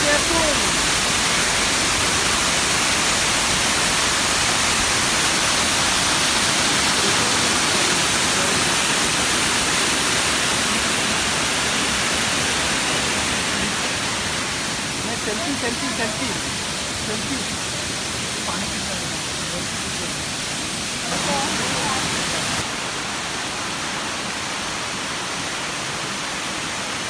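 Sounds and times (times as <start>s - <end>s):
waterfall and rapids rushing: 0.0s - 27.0s.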